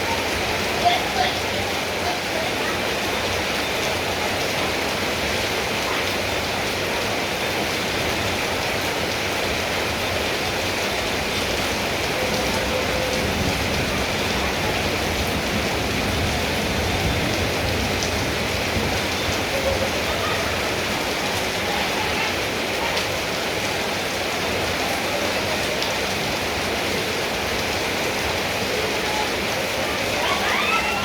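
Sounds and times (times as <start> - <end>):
heavy rain pattering: 0.0 - 31.0.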